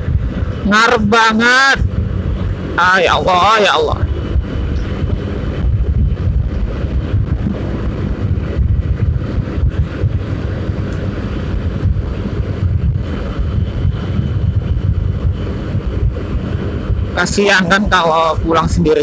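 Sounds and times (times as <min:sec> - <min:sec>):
motorcycle engine: 0:00.0 - 0:19.0
road noise: 0:00.0 - 0:19.0
wind buffeting microphone: 0:00.0 - 0:19.0.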